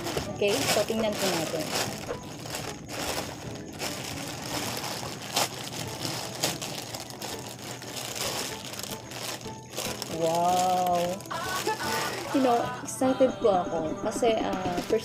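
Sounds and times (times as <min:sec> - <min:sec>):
plastic mailer pouch crinkling: 0:00.0 - 0:12.7.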